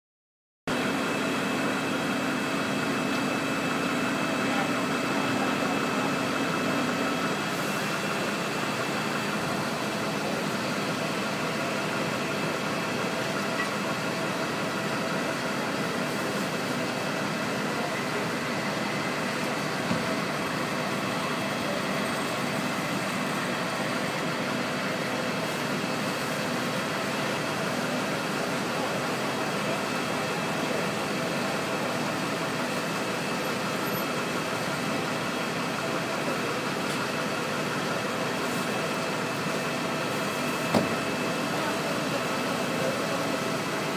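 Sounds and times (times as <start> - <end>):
engine idling hum: 0.7 - 43.9.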